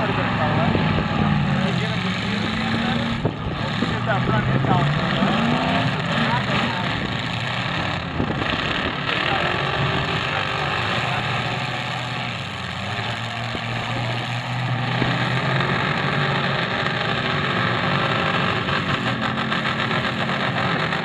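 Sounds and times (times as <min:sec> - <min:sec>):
car engines droning: 0:00.0 - 0:21.0.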